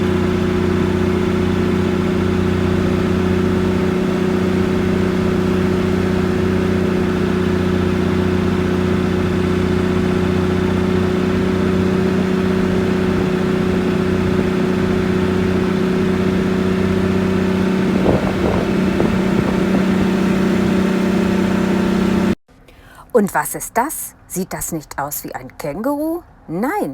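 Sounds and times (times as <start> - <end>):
diesel engine droning: 0.0 - 22.4.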